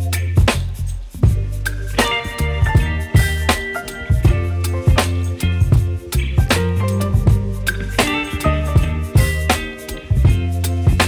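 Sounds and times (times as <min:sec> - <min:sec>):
music with deep bass and drums: 0:00.0 - 0:11.0.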